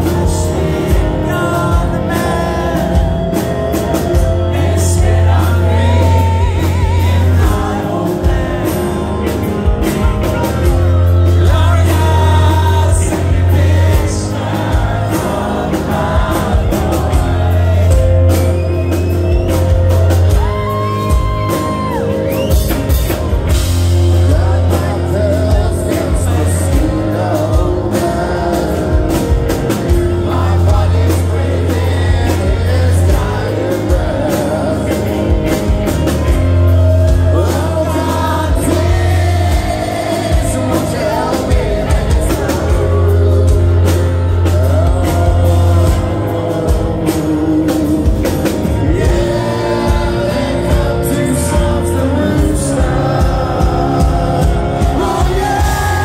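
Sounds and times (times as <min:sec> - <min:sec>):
drums: 0:00.0 - 0:56.0
electric guitar: 0:00.0 - 0:56.0
heavy bass: 0:00.0 - 0:56.0
people singing: 0:00.0 - 0:56.0.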